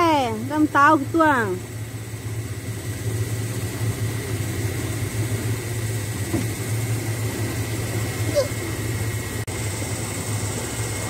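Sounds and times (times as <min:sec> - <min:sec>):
motorboat engine humming: 0:00.0 - 0:11.0
hiss of water and air: 0:01.8 - 0:11.0.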